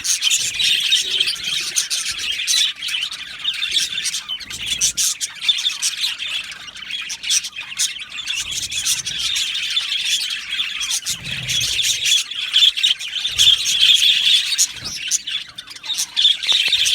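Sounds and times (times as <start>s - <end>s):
budgerigars chattering: 0.0s - 16.9s.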